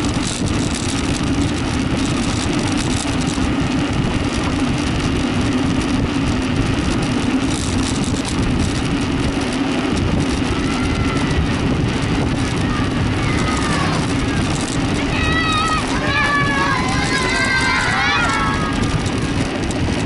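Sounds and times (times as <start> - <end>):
low drone: 0.0 - 20.0
wind and road noise: 0.0 - 20.0.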